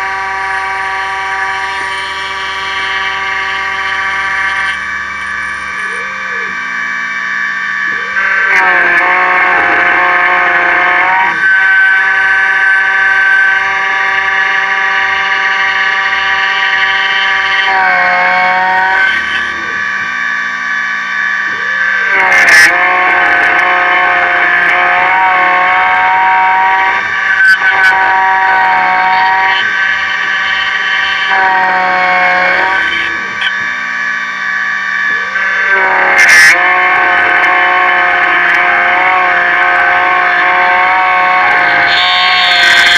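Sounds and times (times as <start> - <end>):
key cutter spindle whining: 0.0 - 42.9.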